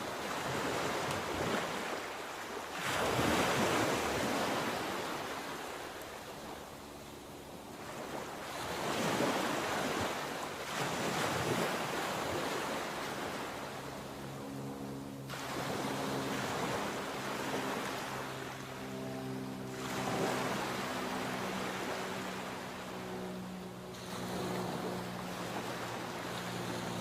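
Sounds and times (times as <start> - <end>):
sea waves breaking: 0.0 - 27.0.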